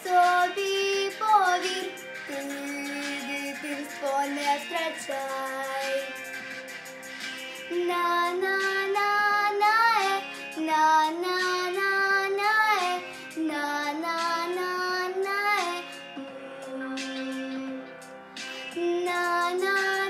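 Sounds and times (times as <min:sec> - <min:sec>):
girl singing: 0:00.0 - 0:06.2, 0:07.7 - 0:17.9, 0:18.7 - 0:20.0
musical accompaniment: 0:00.0 - 0:20.0.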